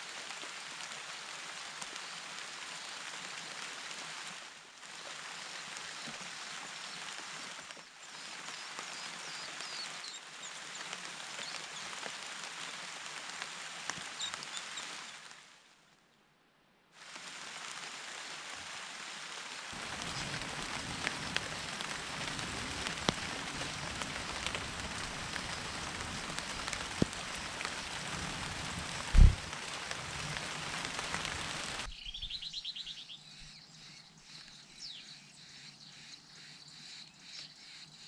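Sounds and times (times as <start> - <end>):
rain falling on leaves: 0.0 - 16.0, 17.0 - 33.1.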